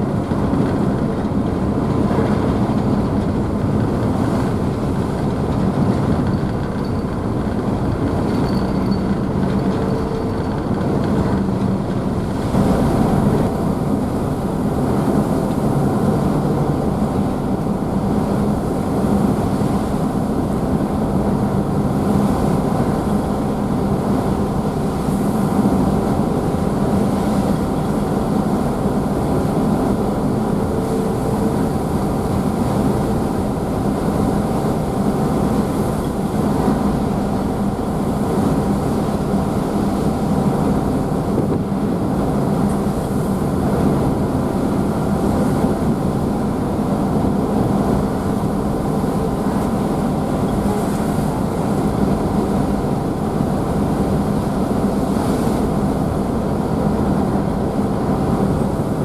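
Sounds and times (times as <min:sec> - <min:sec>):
water rushing in wake: 0:00.0 - 0:59.0
ship engines humming: 0:07.2 - 0:59.0.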